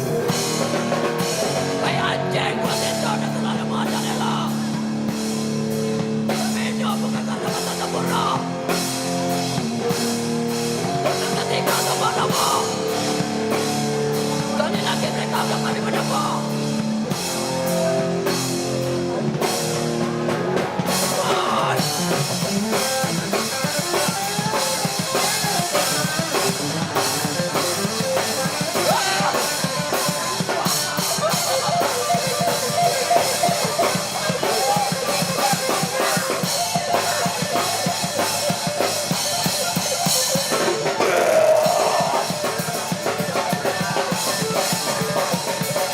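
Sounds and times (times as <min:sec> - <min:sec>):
electric guitar chords: 0:00.0 - 0:45.9
fast dense drumming: 0:00.0 - 0:45.9.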